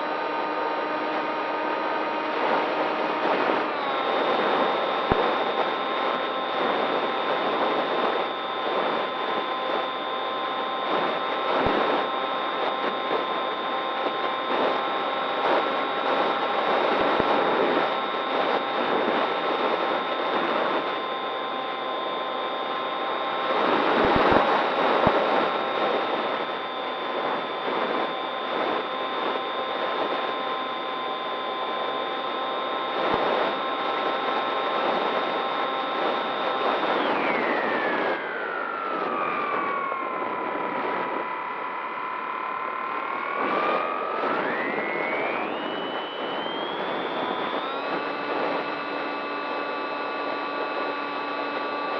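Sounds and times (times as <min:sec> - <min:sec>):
wind rushing over microphone: 0:00.0 - 0:32.1, 0:32.8 - 0:51.9
model plane motor whine: 0:00.0 - 0:51.9.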